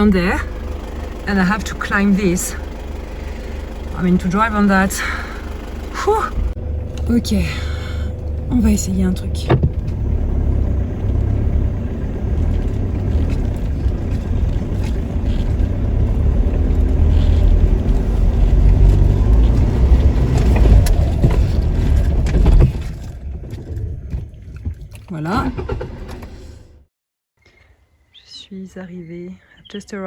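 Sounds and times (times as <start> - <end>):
engine rumbling under load: 0.0 - 26.9.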